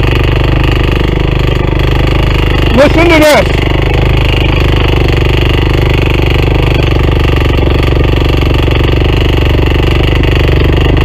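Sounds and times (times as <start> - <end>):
motorcycle engine labouring: 0.0 - 11.0
rapid metallic knocking in engine: 0.0 - 11.0.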